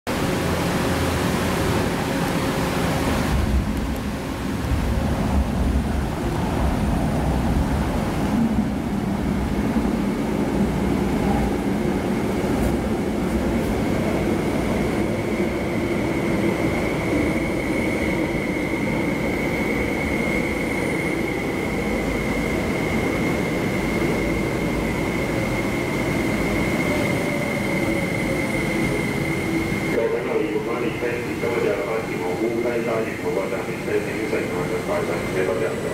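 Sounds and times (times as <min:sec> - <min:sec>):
train wheels and motors rumbling: 0:00.1 - 0:35.9.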